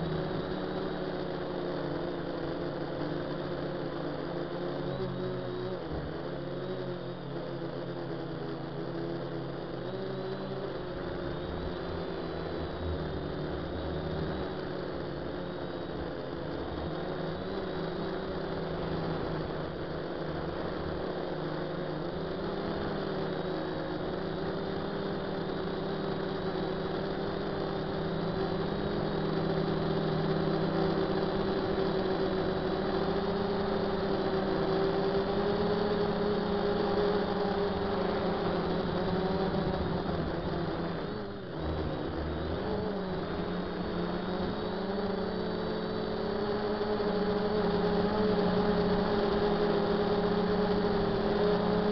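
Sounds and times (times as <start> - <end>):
quadcopter propellers buzzing: 0.0 - 51.9.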